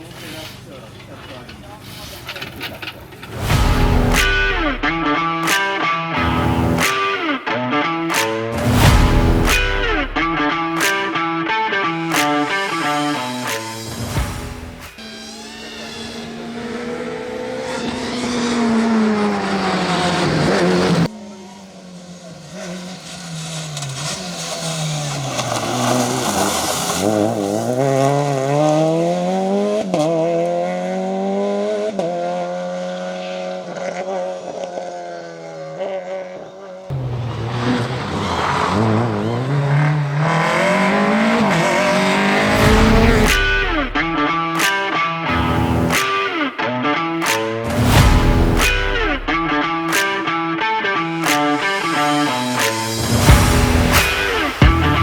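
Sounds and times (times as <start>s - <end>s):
rally car engine revving: 1.3s - 55.0s.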